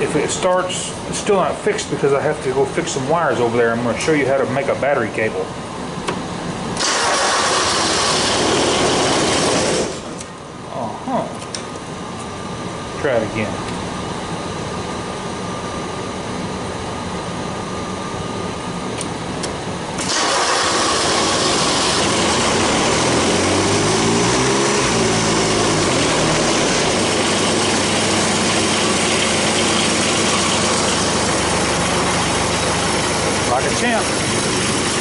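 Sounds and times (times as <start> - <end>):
diesel engine starting and running: 0.0 - 10.7, 11.4 - 35.0.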